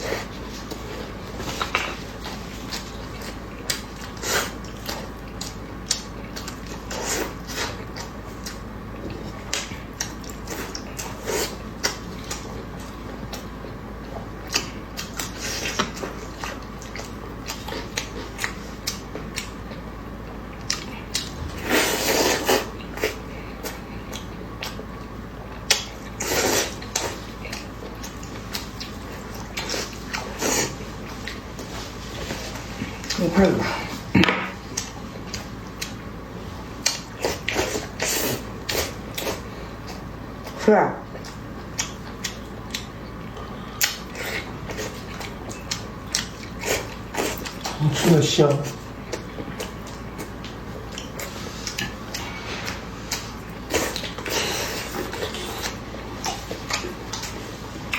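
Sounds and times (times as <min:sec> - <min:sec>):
chewing: 0:00.0 - 0:57.9.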